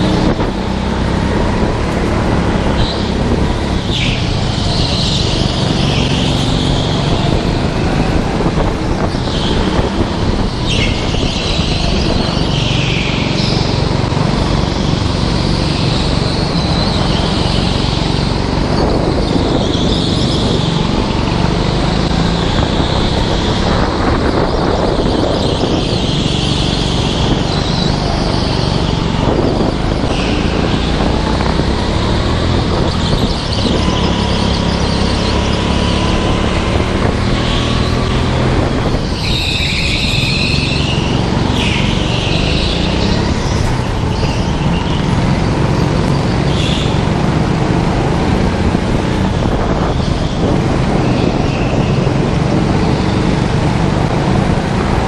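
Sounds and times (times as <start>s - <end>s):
tyres squealing: 0.0s - 54.0s
go-kart motor running hard: 0.0s - 55.0s.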